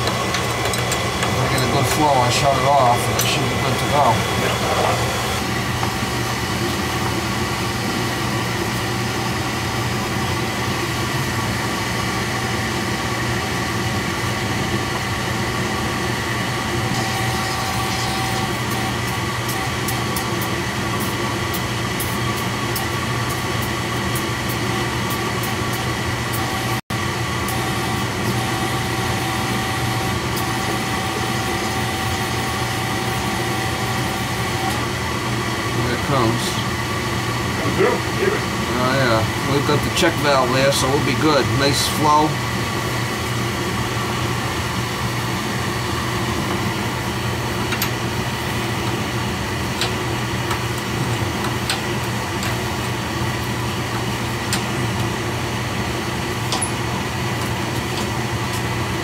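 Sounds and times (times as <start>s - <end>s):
oil burner humming: 0.0s - 59.0s.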